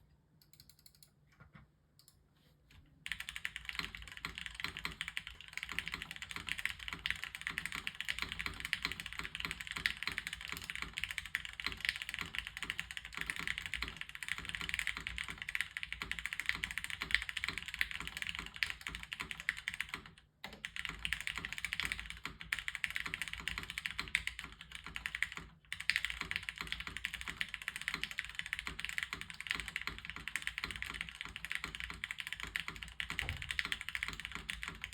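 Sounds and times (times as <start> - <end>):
fast typing on mechanical keyboard: 3.0 - 34.9.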